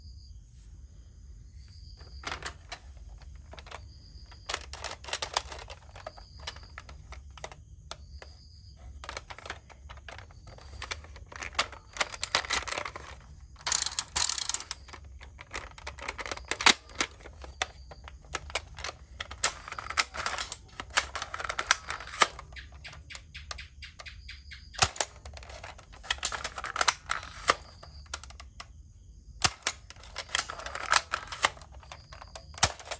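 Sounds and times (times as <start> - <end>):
toy guns rattling and clicking: 2.0 - 28.7, 29.4 - 32.9.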